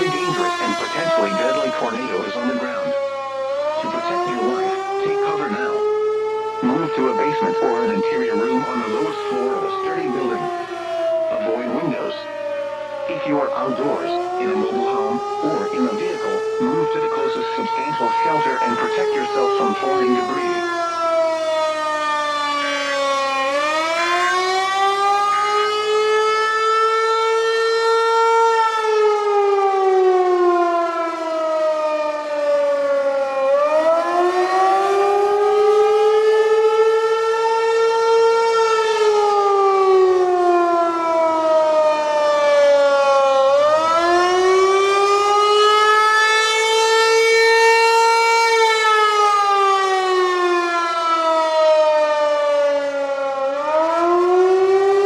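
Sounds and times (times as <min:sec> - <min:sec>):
rising and falling warning siren: 0:00.0 - 0:55.0.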